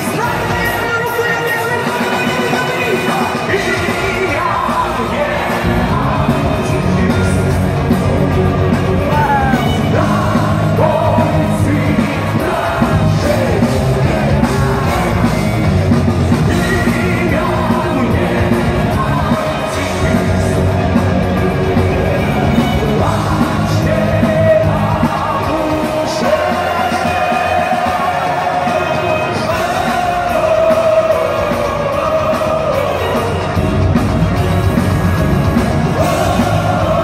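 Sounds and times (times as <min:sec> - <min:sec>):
man singing: 0:00.0 - 0:33.8
drums: 0:00.0 - 0:37.0
electric guitars: 0:00.0 - 0:37.0
bass guitar: 0:01.8 - 0:37.0.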